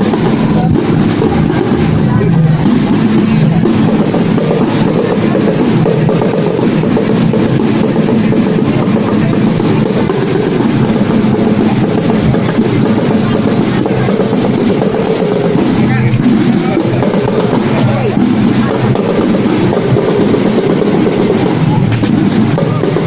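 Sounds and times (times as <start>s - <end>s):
drum-led music: 0.0s - 23.0s.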